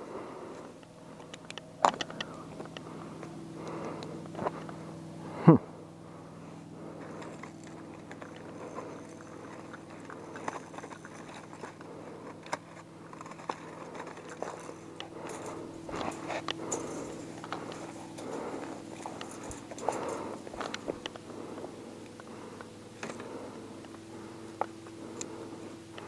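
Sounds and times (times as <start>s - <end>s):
gear clicks and rustles: 0.0s - 26.0s
steady low hum: 0.0s - 26.0s.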